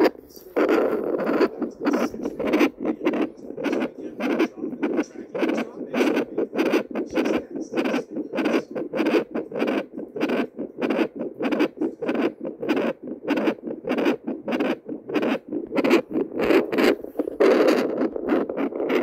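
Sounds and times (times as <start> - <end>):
doppler heartbeat whooshing pulses: 0.0 - 19.0.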